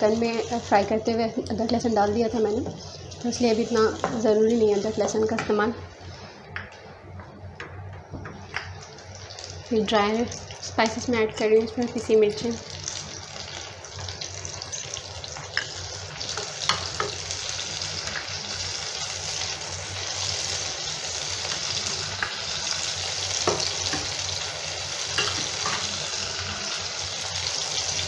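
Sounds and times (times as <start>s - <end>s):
sauce sizzling in hot oil: 0.0s - 6.2s, 8.4s - 28.0s.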